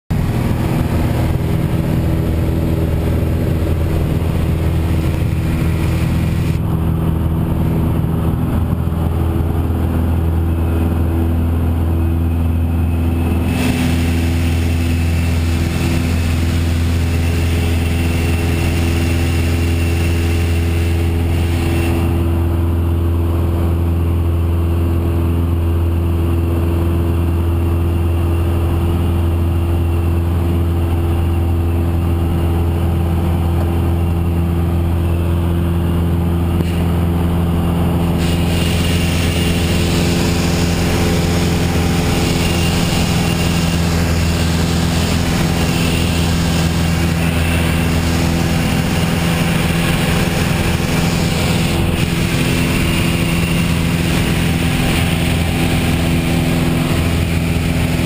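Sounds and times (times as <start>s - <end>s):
propeller aircraft engine drone: 0.1s - 58.0s.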